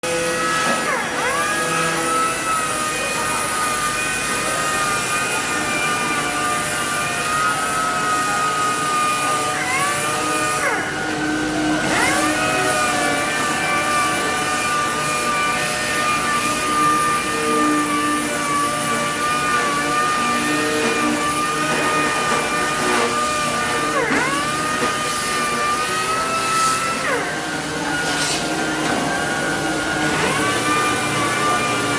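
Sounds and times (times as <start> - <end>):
power sander whining: 0.0 - 31.9.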